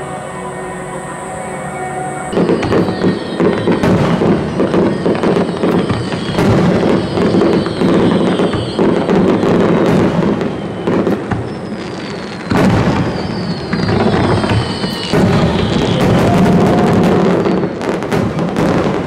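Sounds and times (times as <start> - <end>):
fireworks booming and crackling: 0.0 - 19.0
fireworks whistles falling in pitch: 0.0 - 19.0.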